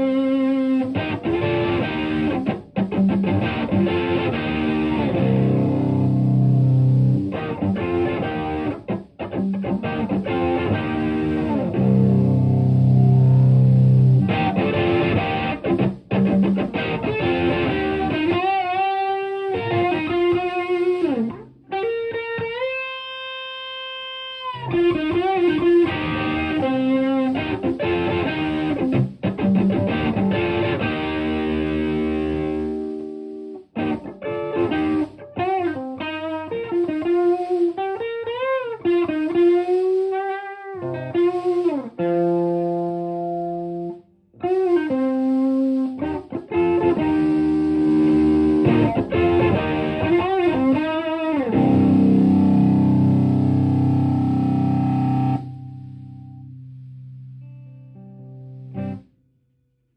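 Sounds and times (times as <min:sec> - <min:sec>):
overdriven electric guitar: 0:00.0 - 0:59.1.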